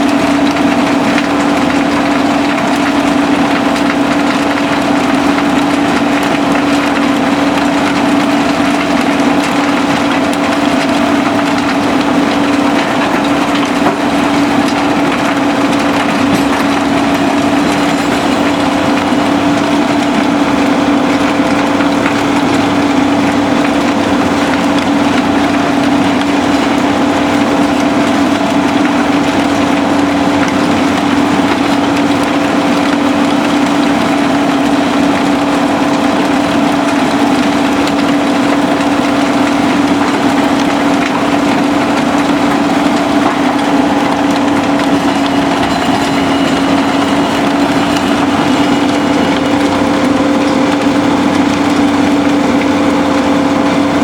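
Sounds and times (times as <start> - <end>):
crusher machine hum: 0.0 - 54.0
diesel engine noise: 0.0 - 54.0
rattle of rubble: 0.0 - 54.0.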